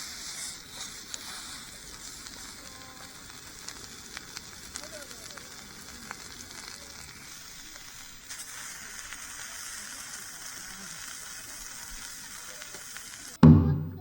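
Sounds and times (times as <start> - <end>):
food sizzling in a pan: 0.0 - 13.4.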